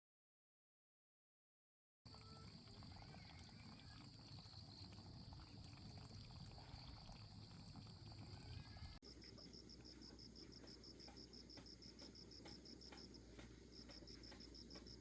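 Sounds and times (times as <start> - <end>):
pulsing cricket chirp: 2.1 - 15.0.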